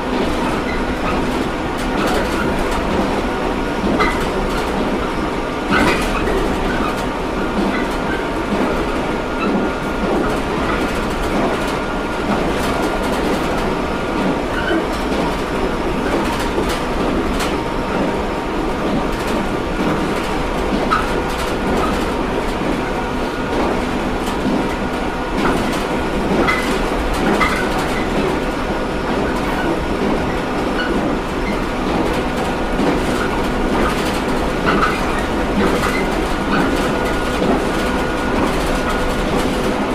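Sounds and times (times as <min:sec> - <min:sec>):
rail joint clacks: 0:00.1 - 0:39.9
wheel-on-rail noise: 0:00.2 - 0:39.9.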